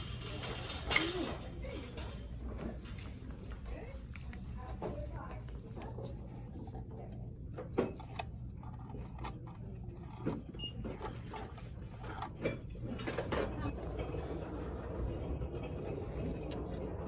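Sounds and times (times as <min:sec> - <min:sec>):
merchandise clicking and knocking: 0:00.0 - 0:17.0
steady low hum: 0:00.0 - 0:17.0.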